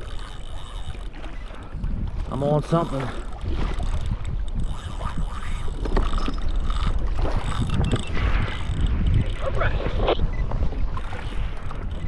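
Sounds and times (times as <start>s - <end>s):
water lapping against hull: 0.0s - 12.0s
wind buffeting microphone: 0.0s - 12.0s.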